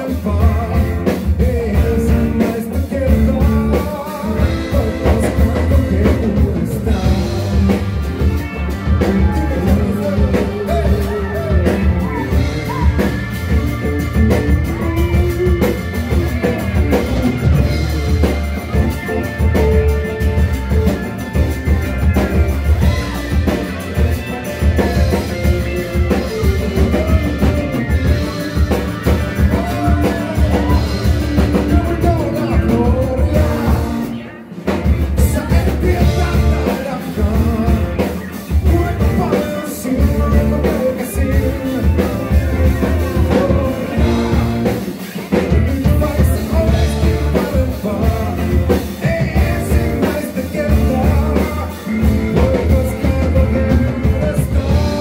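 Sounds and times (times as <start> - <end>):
man singing into a microphone: 0.0 - 21.0, 22.7 - 55.0
bass guitar: 0.0 - 55.0
drum kit: 0.0 - 55.0
electric guitars: 0.0 - 55.0.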